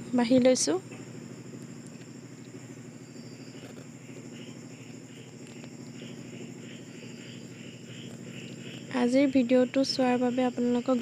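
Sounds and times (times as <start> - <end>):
insect chirping: 0.0 - 11.0
low steady hum: 0.0 - 11.0.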